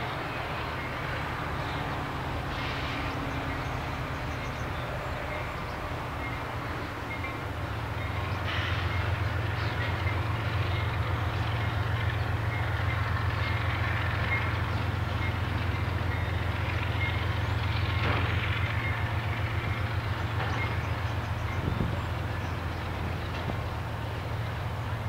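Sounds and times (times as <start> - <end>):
freight cars rolling on rails: 0.0 - 25.0.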